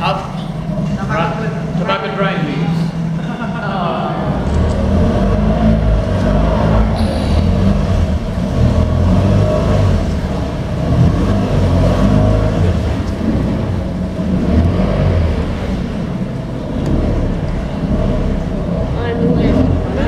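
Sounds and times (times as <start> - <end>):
boat motor droning: 0.0 - 20.0.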